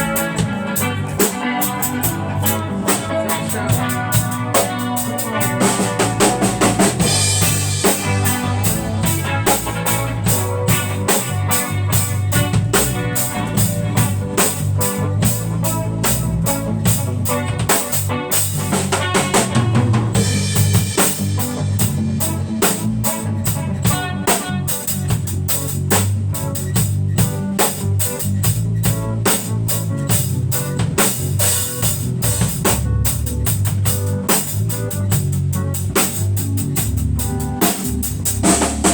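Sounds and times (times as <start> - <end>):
band playing instrumental music: 0.0 - 38.9
drum kit beat: 0.0 - 38.9.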